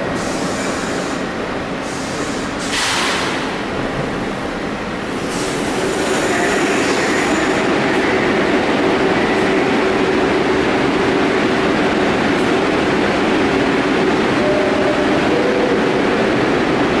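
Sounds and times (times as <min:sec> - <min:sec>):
subway train humming: 0:00.0 - 0:17.0.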